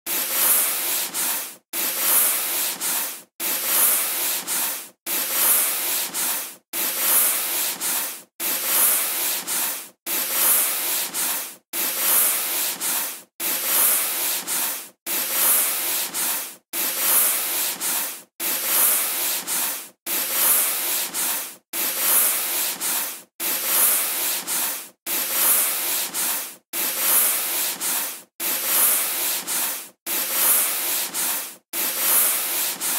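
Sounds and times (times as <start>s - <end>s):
eraser rubbing on chalkboard: 0.1s - 32.9s.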